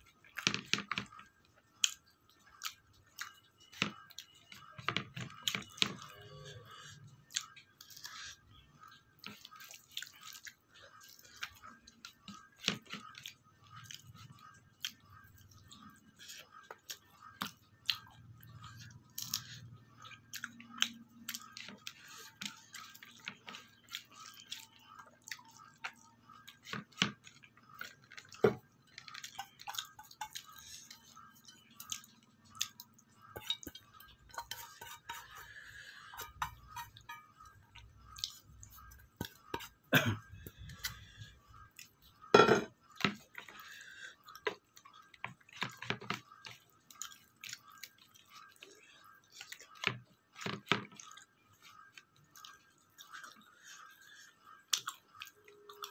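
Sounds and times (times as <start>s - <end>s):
chewing: 0.0s - 55.9s.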